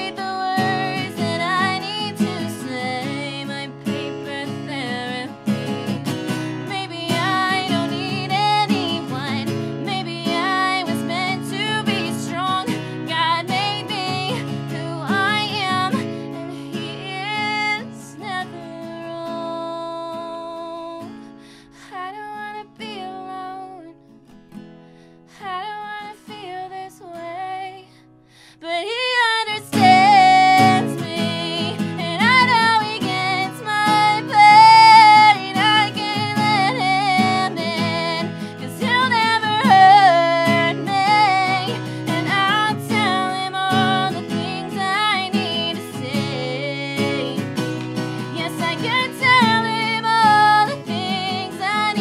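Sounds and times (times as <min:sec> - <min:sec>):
acoustic guitar strumming: 0:00.0 - 0:21.3, 0:29.0 - 0:52.0
woman singing: 0:00.0 - 0:24.2, 0:25.3 - 0:52.0.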